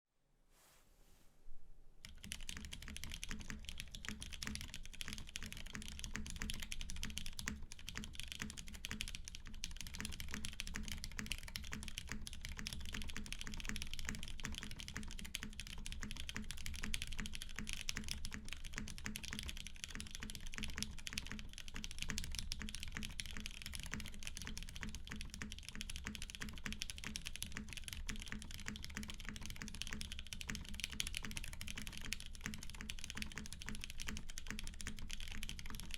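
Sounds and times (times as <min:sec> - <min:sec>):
fast typing on mechanical keyboard: 0:02.0 - 0:35.9.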